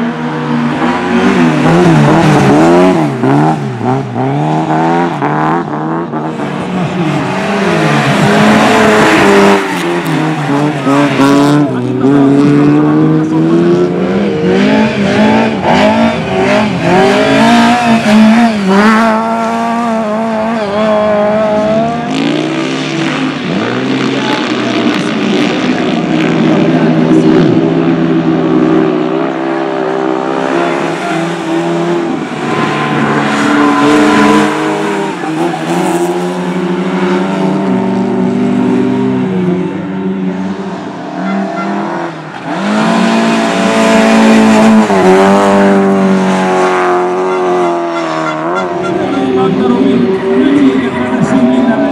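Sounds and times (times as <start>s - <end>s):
race car engines revving: 0.0s - 51.9s.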